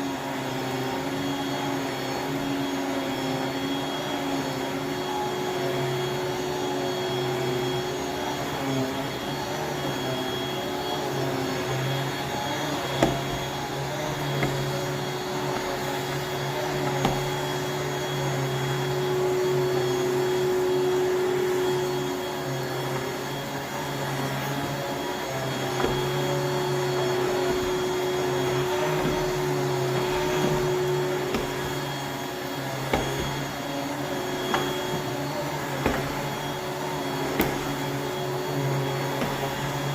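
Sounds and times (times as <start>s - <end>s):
vacuum cleaner motor hum: 0.0s - 39.9s.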